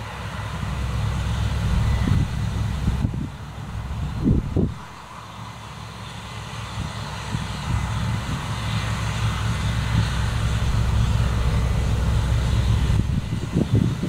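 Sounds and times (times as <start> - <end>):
combine harvester diesel rumble: 0.0 - 14.0.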